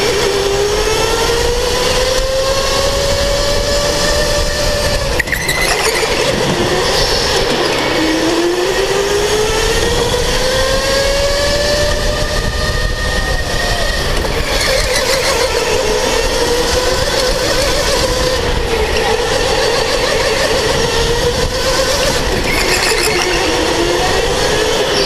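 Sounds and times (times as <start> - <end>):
electric motor whining: 0.0 - 25.0
kart rumbling over concrete: 0.0 - 25.0.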